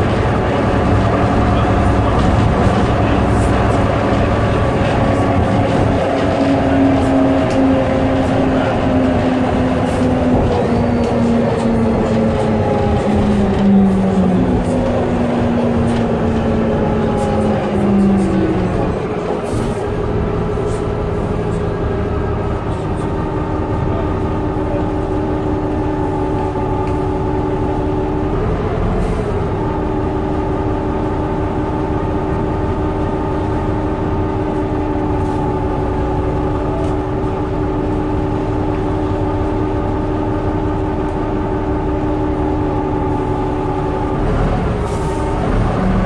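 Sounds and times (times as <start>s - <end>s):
bus engine drone with whine: 0.0s - 46.0s.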